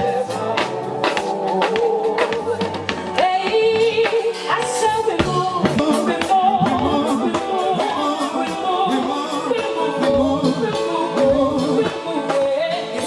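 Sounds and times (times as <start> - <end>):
gospel band playing: 0.0 - 13.0
person singing: 0.0 - 13.0.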